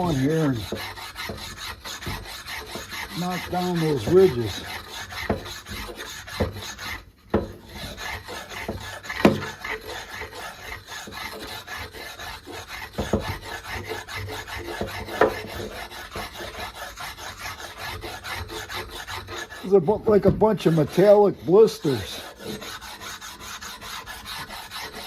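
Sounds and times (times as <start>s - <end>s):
stone rasping on metal bar: 0.0s - 25.0s.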